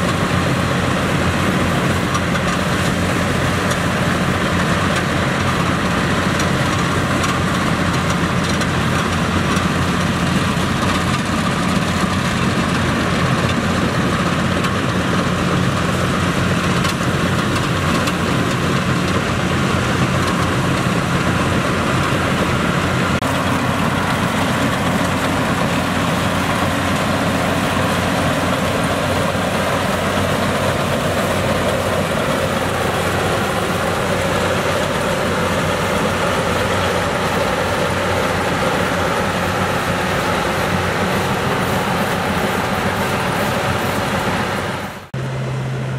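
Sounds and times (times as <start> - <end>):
combine harvester diesel engine: 0.0 - 45.9.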